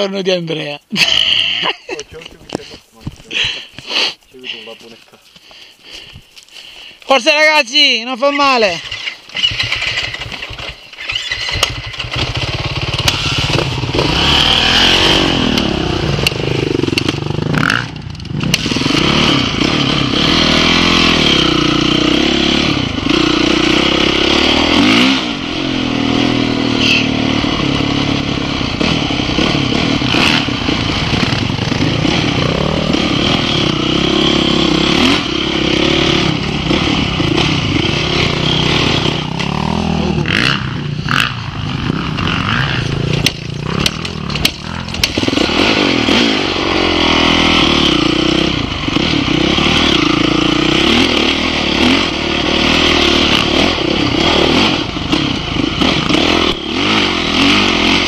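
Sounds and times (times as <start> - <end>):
dirt bike engine revving: 7.1 - 58.0.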